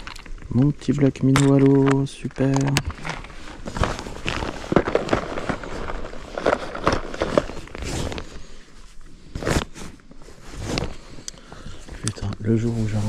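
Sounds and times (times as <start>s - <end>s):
fishing gear clicks and rustles: 0.0s - 13.0s.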